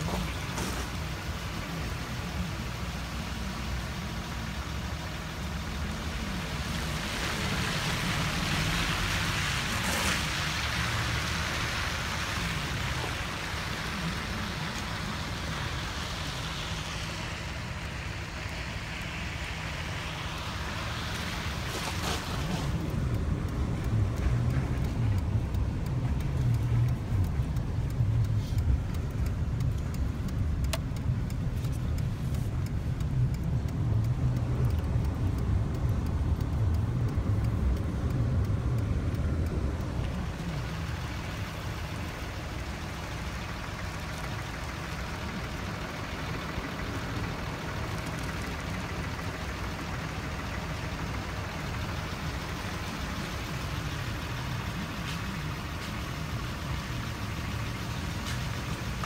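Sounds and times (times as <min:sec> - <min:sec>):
engine and road rumble: 0:00.0 - 0:59.0
steady road hiss: 0:00.0 - 0:59.0.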